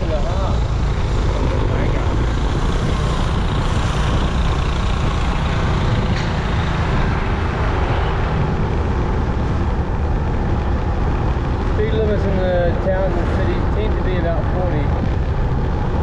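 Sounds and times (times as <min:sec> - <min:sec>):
motorbike engine: 0:00.0 - 0:16.0
wind rush over microphone: 0:00.0 - 0:16.0.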